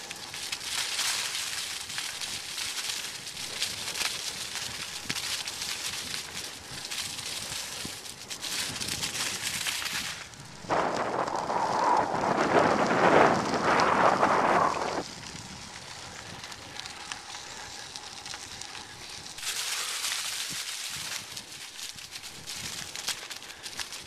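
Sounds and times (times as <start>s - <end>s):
bicycle tyres rolling over dry leaves: 0.0s - 24.0s.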